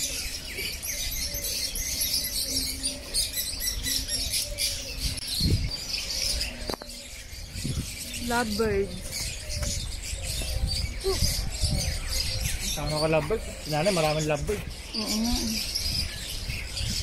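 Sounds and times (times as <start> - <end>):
caged birds twittering: 0.0 - 17.0.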